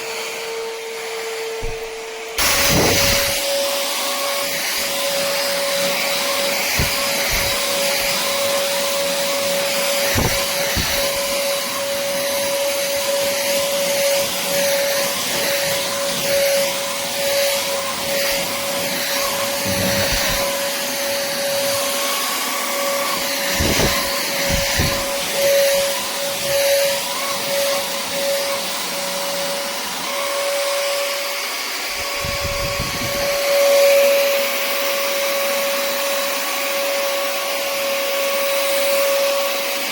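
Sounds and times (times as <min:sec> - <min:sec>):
vacuum motor whine: 0:00.0 - 0:39.9.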